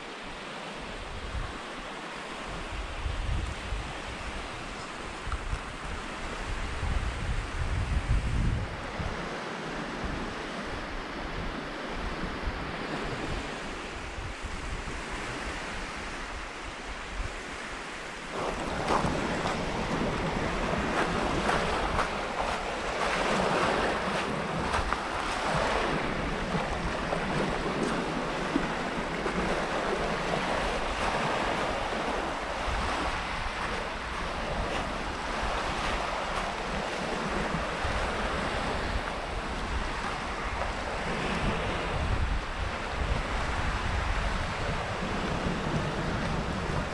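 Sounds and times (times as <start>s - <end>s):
waves washing onto a beach: 0.0s - 46.9s
wind buffeting microphone: 0.8s - 1.8s, 2.4s - 46.9s.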